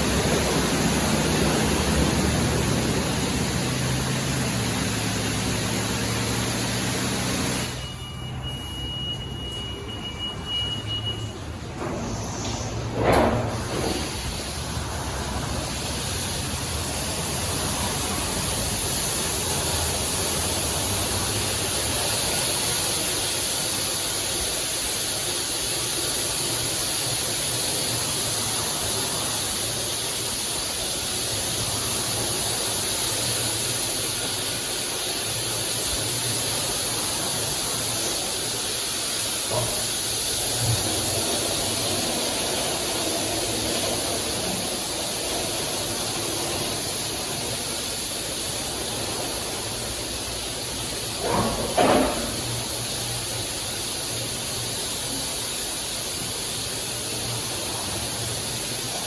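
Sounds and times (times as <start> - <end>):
car wash water spray: 0.0 - 59.0.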